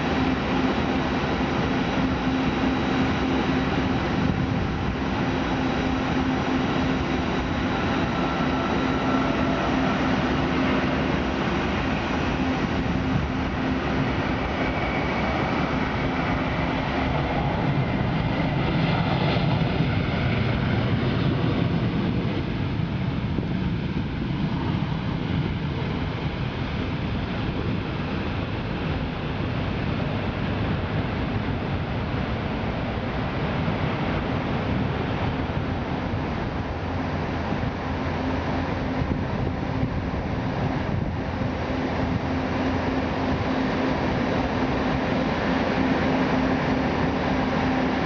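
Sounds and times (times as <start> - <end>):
jet engine rushing with whine: 0.0 - 48.0.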